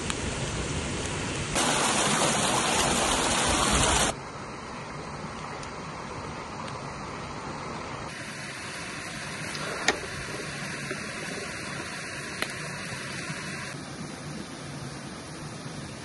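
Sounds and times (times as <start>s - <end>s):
rushing river water: 1.5s - 16.0s.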